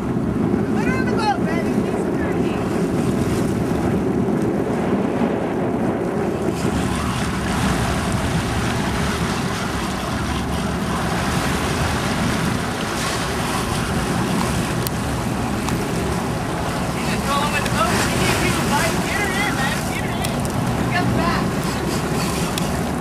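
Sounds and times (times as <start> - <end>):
boat engine rumble: 0.0 - 23.0
water washing along hull: 0.0 - 23.0
wind buffeting microphone: 0.0 - 23.0.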